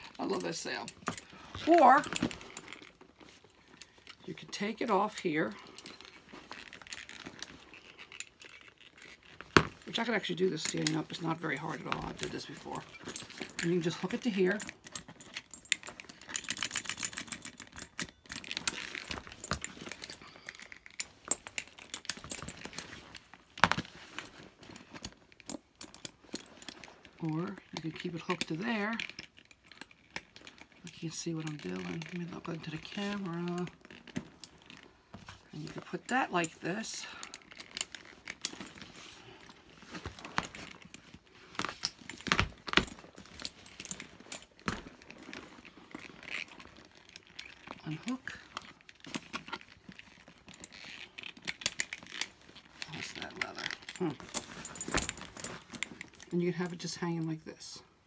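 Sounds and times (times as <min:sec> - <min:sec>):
bag rustling: 0:00.0 - 0:56.9
metal strap clips jangling: 0:00.0 - 0:57.0.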